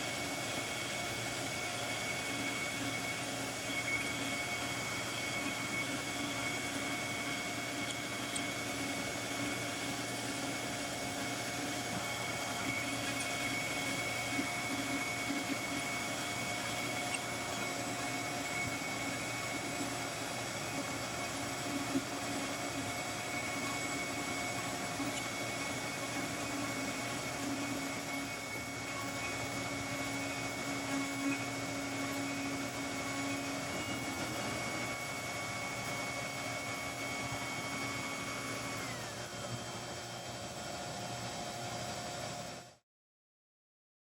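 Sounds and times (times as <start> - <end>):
electric motor whine: 0.0 - 42.8.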